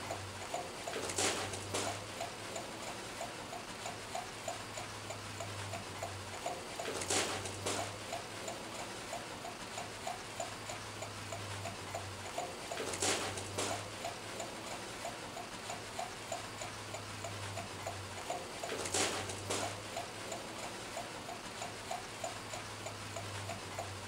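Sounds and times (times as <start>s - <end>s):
steady ticking: 0.0s - 24.0s.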